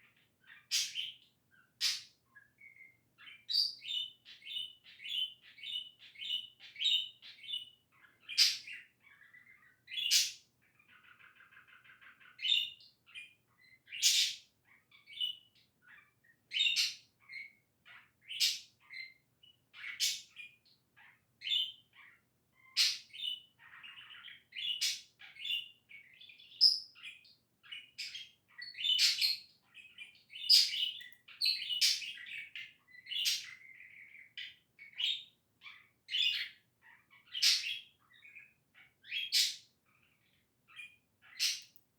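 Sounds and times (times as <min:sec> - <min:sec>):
budgerigar chattering and warbling: 0:00.0 - 0:19.2, 0:19.8 - 0:41.8.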